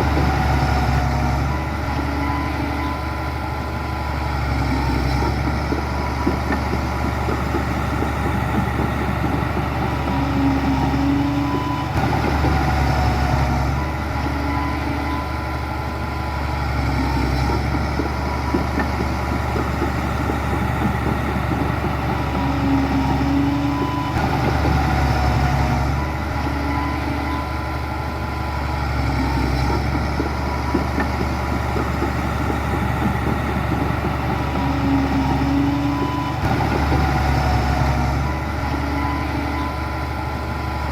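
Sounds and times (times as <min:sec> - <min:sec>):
heavy diesel engines droning: 0:00.0 - 0:40.9.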